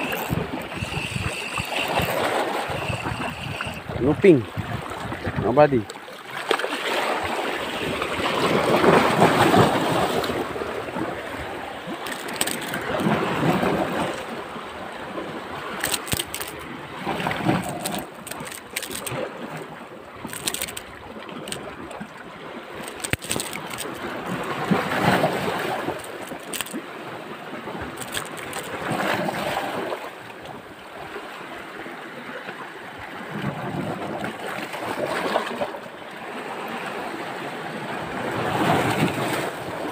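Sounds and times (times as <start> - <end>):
surf washing against rocks: 0.0 - 32.4, 33.0 - 39.9.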